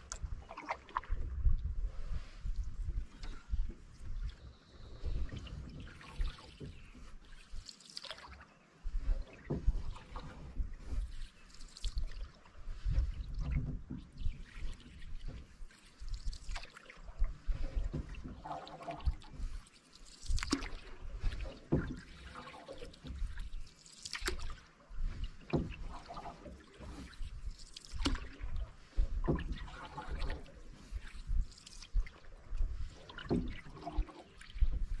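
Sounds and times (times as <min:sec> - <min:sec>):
canoe paddle strokes in water: 0:00.0 - 0:35.0
water dripping off paddle: 0:05.0 - 0:08.5, 0:09.3 - 0:35.0.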